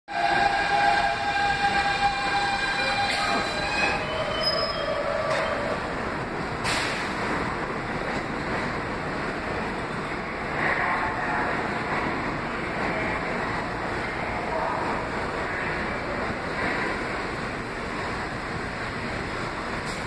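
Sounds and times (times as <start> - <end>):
subway train wheels rumbling: 0.1 - 20.0.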